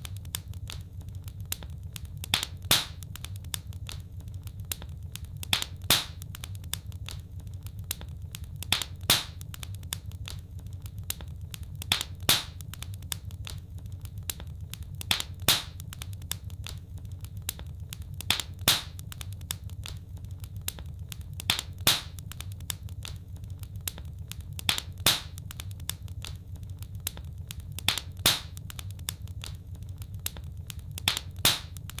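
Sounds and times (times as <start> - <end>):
fire double pops: 0.0 - 32.0
low steady rumble: 0.0 - 32.0
wood fire crackling: 0.0 - 32.0.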